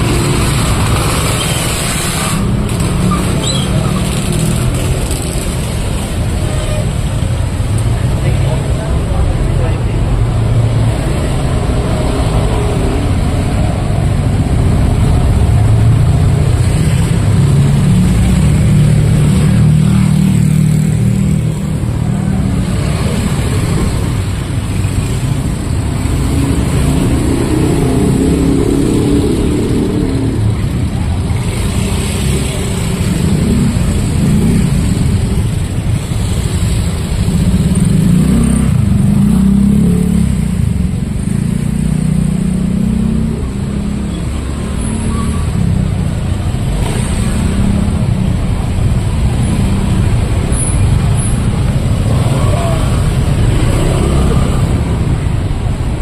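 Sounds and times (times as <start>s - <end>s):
motorcycles passing: 0.0s - 56.0s
vehicle engines passing: 0.0s - 56.0s.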